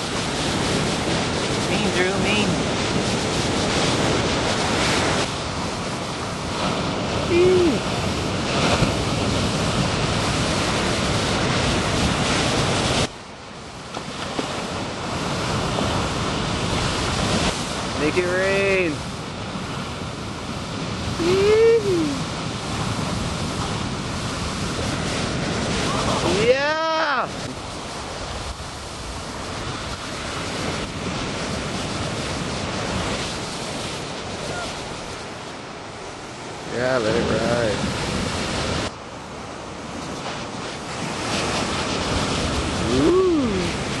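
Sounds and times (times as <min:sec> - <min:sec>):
ocean surf breaking: 0:00.0 - 0:44.0
wind on microphone: 0:00.0 - 0:44.0.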